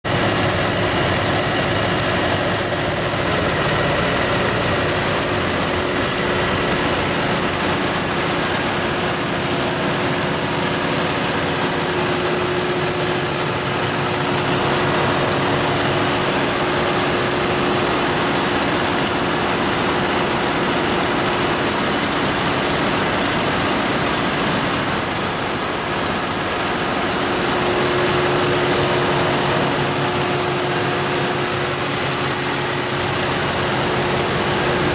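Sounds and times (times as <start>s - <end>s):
diesel generator engine running: 0.1s - 34.9s.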